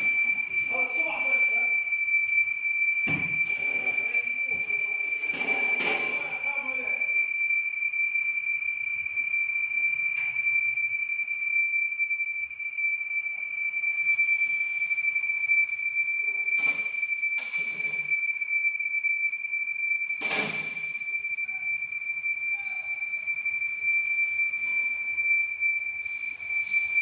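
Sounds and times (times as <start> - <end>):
high-pitched engine whistle: 0.0 - 27.0.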